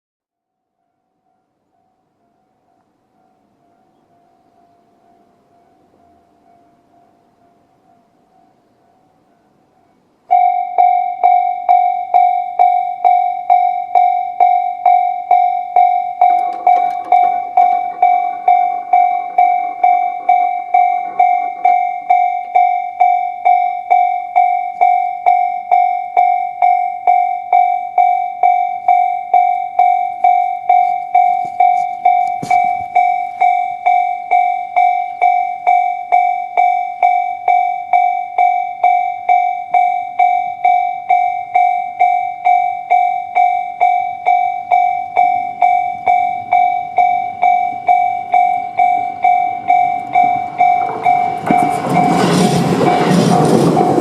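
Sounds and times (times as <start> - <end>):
level-crossing electronic bell dinging: 10.3 - 54.0.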